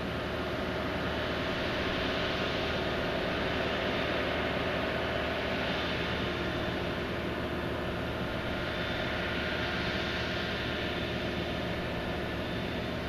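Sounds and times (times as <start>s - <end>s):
heavy diesel machinery drone: 0.0s - 13.0s.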